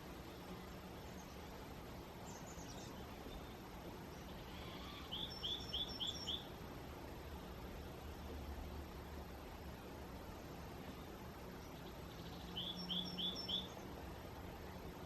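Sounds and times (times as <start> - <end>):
songbird chirping: 0.0 - 15.0
steady background noise: 0.0 - 15.0.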